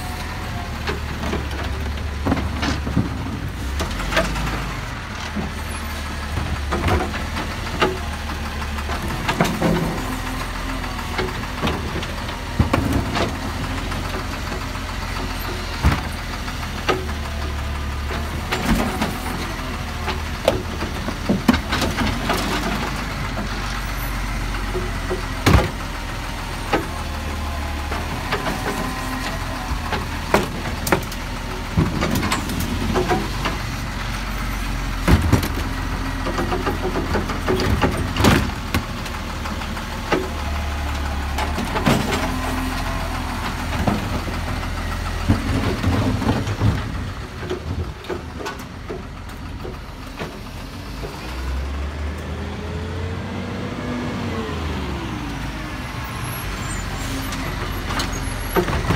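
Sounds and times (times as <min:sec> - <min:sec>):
wheelie bins clunking: 0:00.0 - 0:51.9, 0:56.8 - 0:58.9
garbage truck diesel engine: 0:00.0 - 0:58.9.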